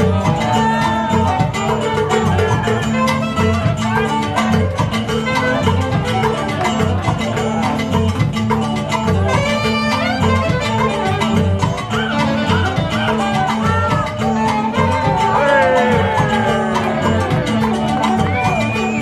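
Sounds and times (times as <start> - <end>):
bass line: 0.0 - 19.0
live band playing latin dance music: 0.0 - 19.0.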